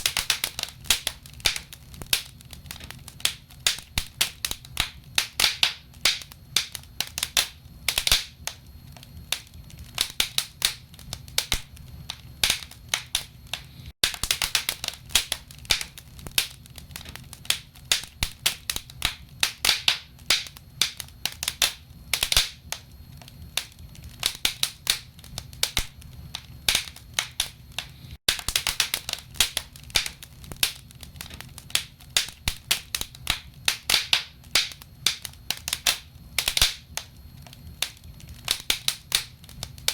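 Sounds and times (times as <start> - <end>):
burning logs popping: 0.0 - 39.9
low fire rumble: 0.0 - 39.9.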